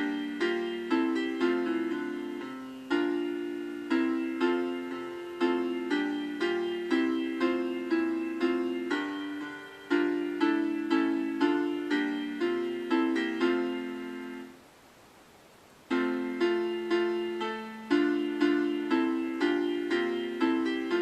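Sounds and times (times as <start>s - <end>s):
piano playing hymn chords: 0.0s - 14.6s, 15.9s - 21.0s.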